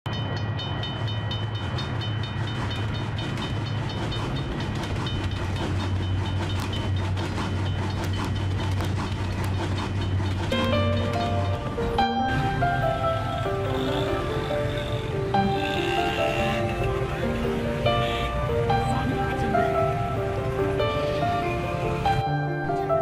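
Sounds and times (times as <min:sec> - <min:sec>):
crossing bell ringing: 0:00.0 - 0:08.7, 0:10.0 - 0:23.0
music: 0:00.1 - 0:23.0
steam train rumbling past: 0:00.1 - 0:23.0.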